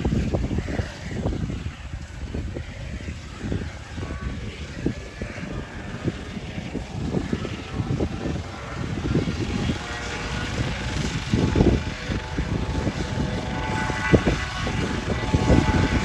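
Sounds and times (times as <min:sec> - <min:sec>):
helicopter turbine whine: 0:00.0 - 0:16.0
low rotor chop: 0:00.0 - 0:16.0.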